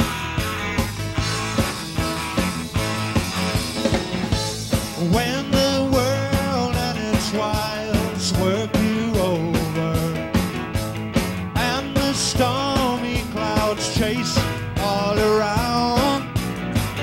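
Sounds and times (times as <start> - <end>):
drum beat: 0.0 - 17.0
lead melody line: 0.0 - 17.0
rock and roll band playing: 0.0 - 17.0.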